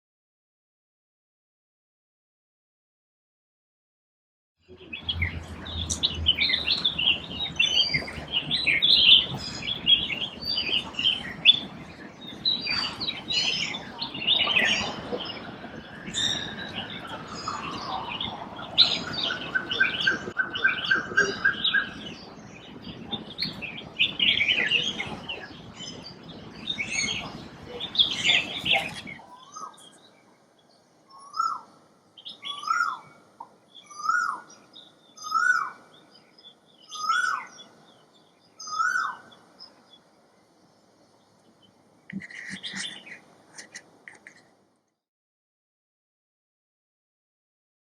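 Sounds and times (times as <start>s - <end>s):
birds chirping and calling: 4.7s - 40.1s, 41.2s - 44.5s.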